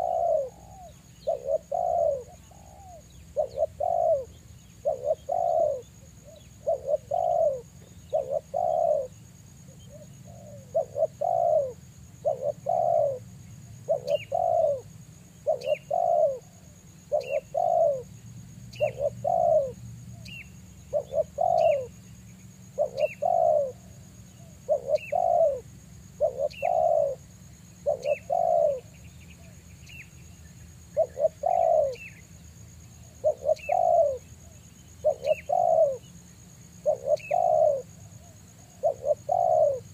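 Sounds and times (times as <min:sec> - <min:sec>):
dove cooing: 0:00.0 - 0:30.0, 0:30.8 - 0:32.3, 0:33.0 - 0:39.9.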